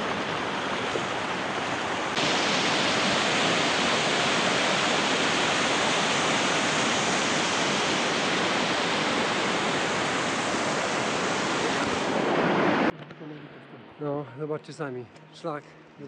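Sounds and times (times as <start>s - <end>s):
mountain stream rushing: 0.0s - 12.9s.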